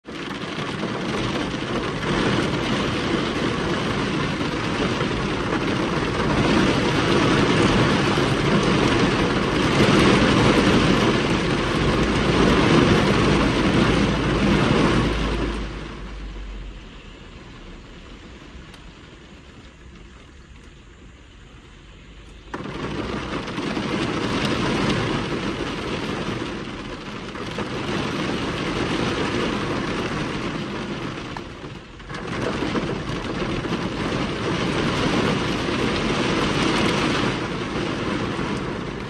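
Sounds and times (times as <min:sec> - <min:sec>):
heavy rain on car windscreen: 0:00.0 - 0:39.0.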